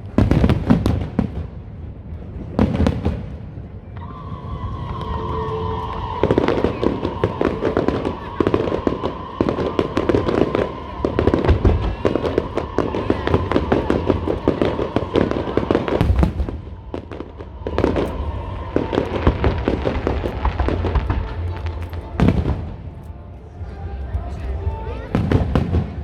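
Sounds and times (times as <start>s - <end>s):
fireworks booming bursts: 0.0s - 3.6s, 4.3s - 23.0s, 24.2s - 26.0s
fireworks crackling and popping: 0.0s - 23.1s, 24.0s - 26.0s.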